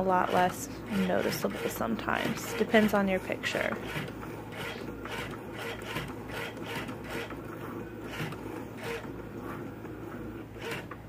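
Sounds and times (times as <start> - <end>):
cutting machine motors whirring: 0.0 - 11.0.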